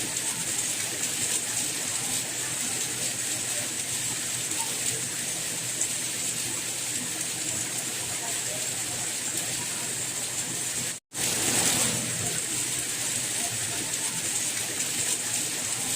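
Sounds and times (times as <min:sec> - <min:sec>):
rain hissing: 0:00.0 - 0:15.9.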